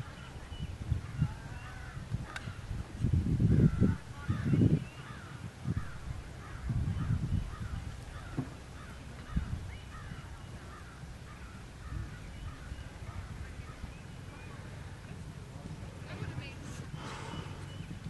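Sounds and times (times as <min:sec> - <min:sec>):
birds chirping: 0:00.0 - 0:02.7, 0:03.5 - 0:18.0.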